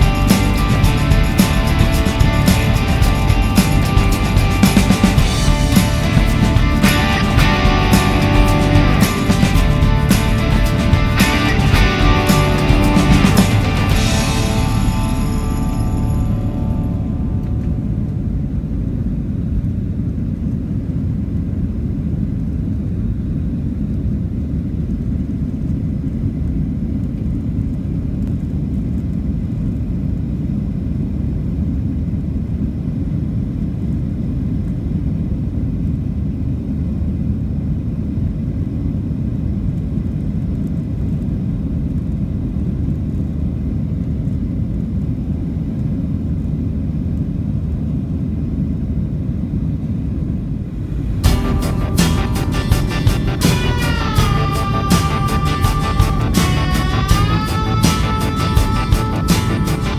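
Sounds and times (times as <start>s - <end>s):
jet cabin drone in flight: 0.0s - 59.9s.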